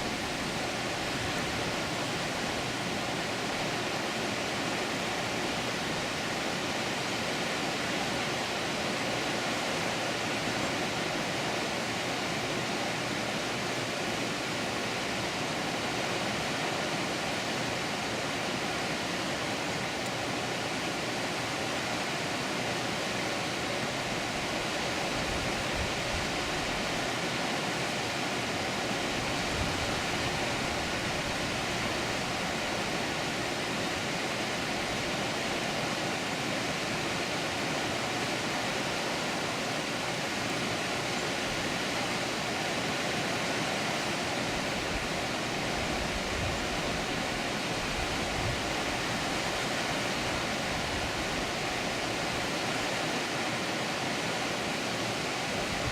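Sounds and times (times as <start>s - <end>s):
water rushing over a dam: 0.0s - 55.9s.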